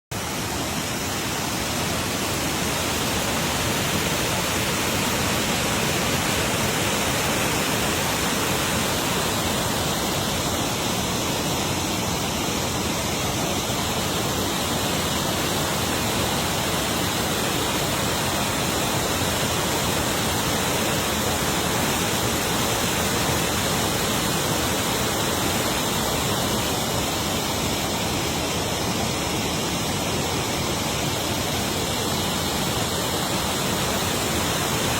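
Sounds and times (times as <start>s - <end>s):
waterfall pouring: 0.1s - 34.9s.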